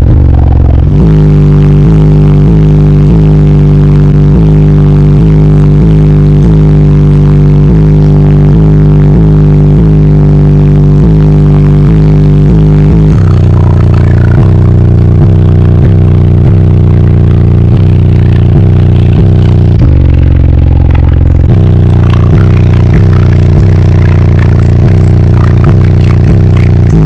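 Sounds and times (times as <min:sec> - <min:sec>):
deep pulsing bass music: 0:00.0 - 0:27.0.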